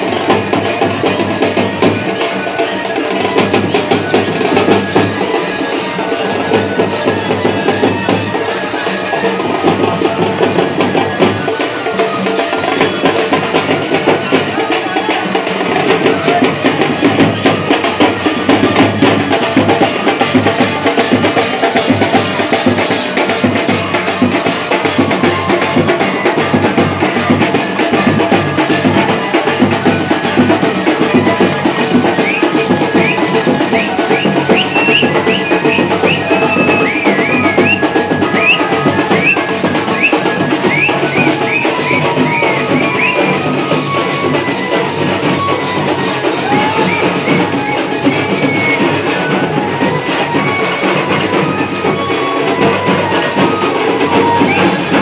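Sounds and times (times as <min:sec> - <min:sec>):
dhol and tasa drums: 0:00.0 - 0:55.0.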